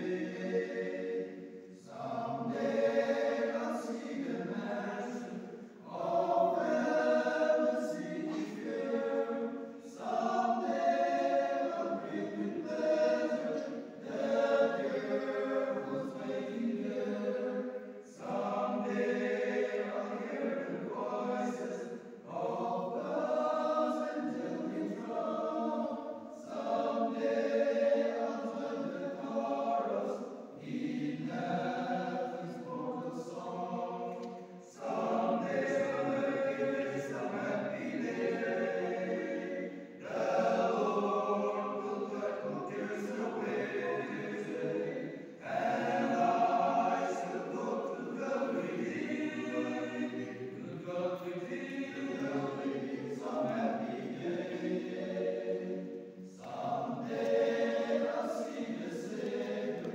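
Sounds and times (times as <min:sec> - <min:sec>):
men's choir singing a cappella: 0:00.0 - 0:59.9.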